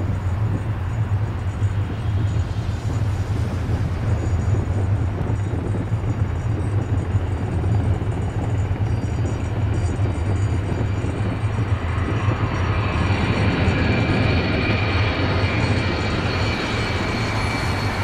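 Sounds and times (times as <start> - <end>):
high turbine whine: 0.0 - 18.0
jet engine rumble: 0.0 - 18.0.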